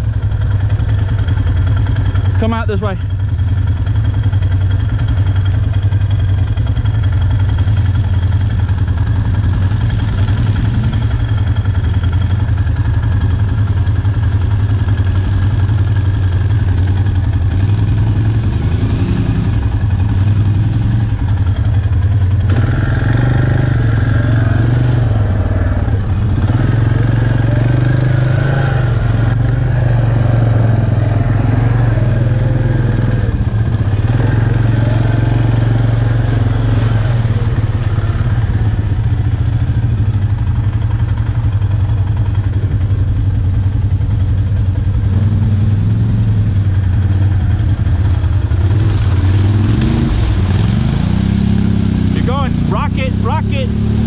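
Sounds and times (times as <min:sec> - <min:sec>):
quad bike engines running: 0:00.0 - 0:54.0.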